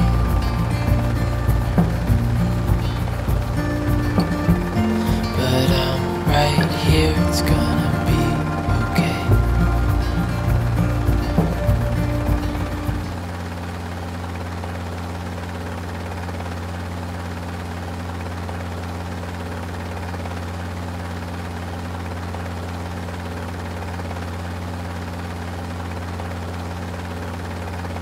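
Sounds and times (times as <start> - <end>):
aircraft engine hum: 0.0 - 28.0.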